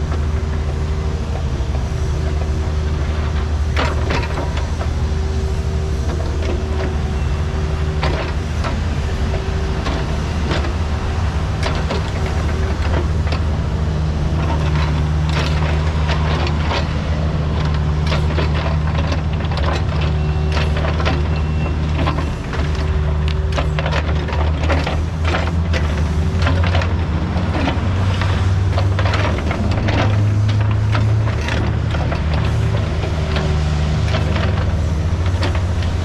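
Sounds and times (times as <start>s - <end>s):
excavator bucket knocking and scraping dirt: 0.0s - 36.0s
excavator diesel engine running: 0.0s - 36.0s.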